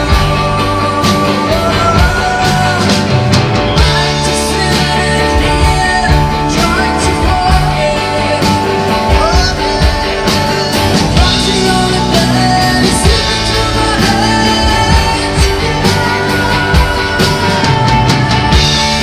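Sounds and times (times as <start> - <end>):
live rock band playing: 0.0 - 19.0
man singing: 0.0 - 19.0.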